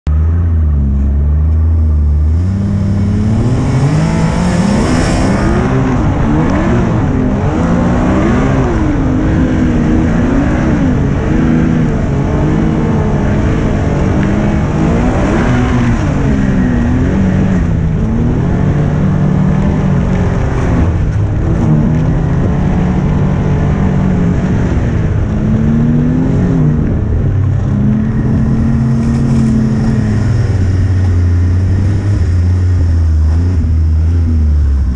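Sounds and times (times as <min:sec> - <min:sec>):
snowmobile engine revving: 0:01.6 - 0:34.9.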